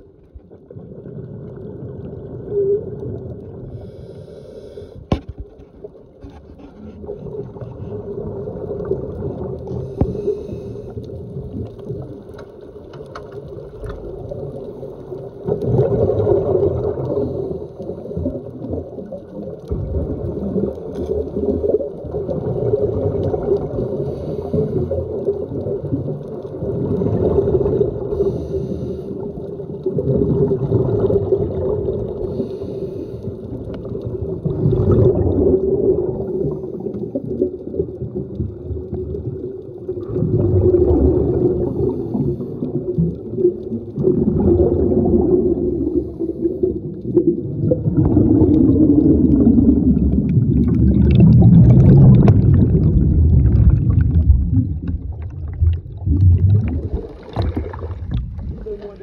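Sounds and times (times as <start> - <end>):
gurgling exhaled bubbles: 0.0 - 4.2, 5.0 - 59.0
low underwater drone: 0.0 - 59.0.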